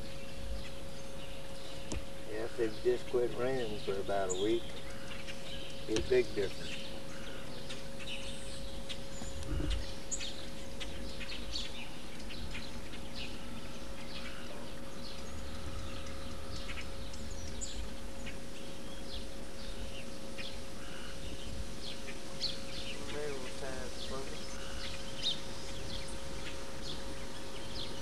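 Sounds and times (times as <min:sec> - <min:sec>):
birds chirping: 0:00.0 - 0:28.0
steady low hum: 0:00.0 - 0:28.0.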